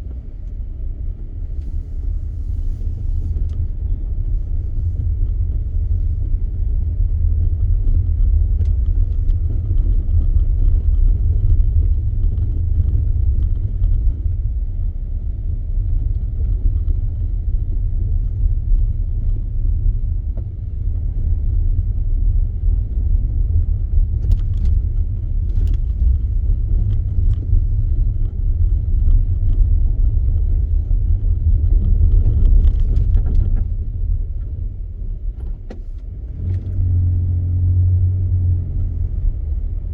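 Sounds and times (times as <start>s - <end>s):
car driving on snowy road: 0.0s - 39.9s.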